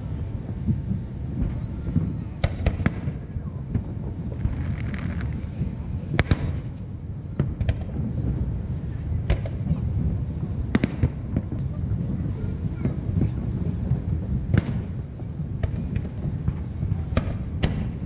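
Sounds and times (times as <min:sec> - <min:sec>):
fireworks bursting: 0:00.0 - 0:18.0
low rumble: 0:00.0 - 0:18.0.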